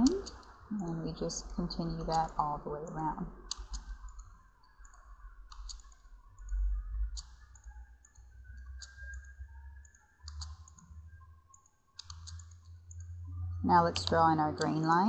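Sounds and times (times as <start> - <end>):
computer mouse clicking: 1.1 - 6.6, 7.2 - 10.9, 11.5 - 13.1, 13.7 - 15.0.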